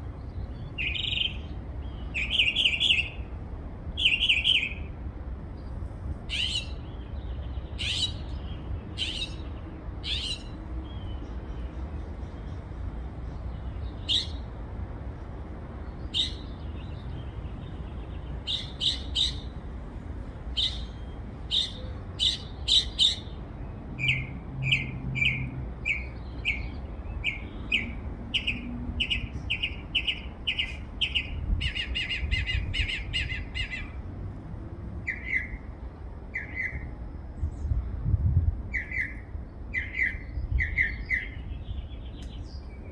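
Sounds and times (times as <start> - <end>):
songbird singing: 0.0 - 37.9, 38.7 - 42.9.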